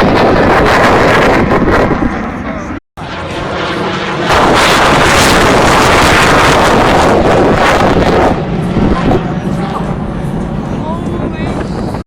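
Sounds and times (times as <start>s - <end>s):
fighter jet roaring past: 0.0s - 12.0s.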